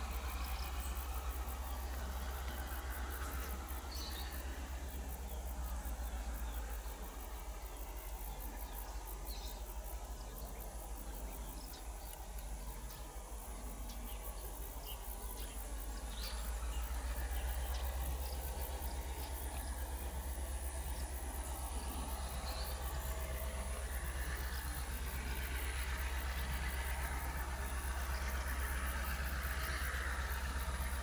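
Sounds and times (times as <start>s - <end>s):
distant diesel locomotive rumble: 0.0s - 31.0s
insects buzzing: 0.0s - 31.0s.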